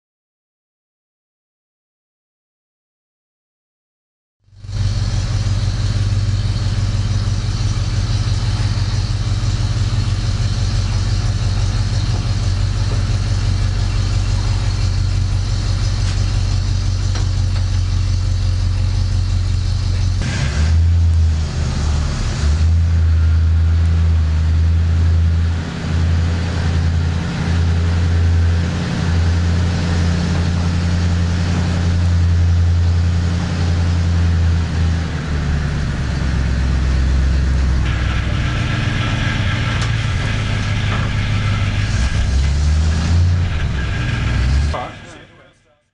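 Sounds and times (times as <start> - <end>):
truck engine running under load: 4.5 - 45.2.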